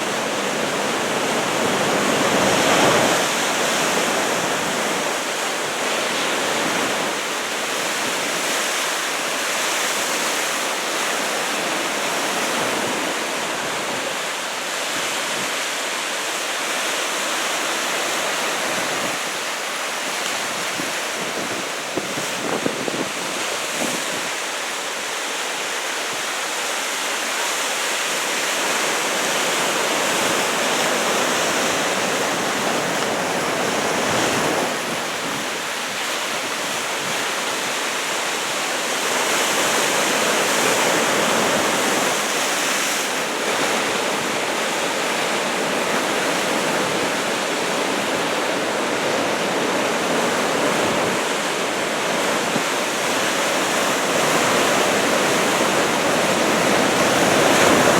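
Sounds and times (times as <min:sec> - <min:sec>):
heavy surf breaking on shore: 0:00.0 - 0:57.9.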